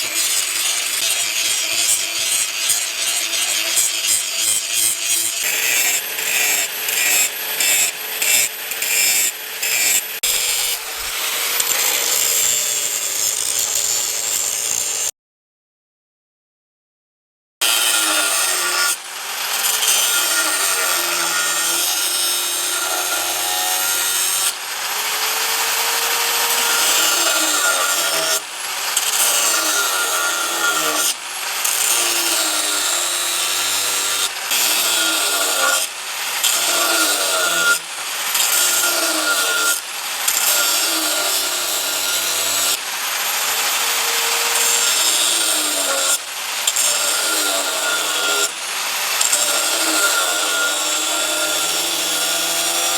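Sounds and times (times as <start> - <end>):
tool grinding and scraping: 0.0 - 15.1, 17.6 - 52.9.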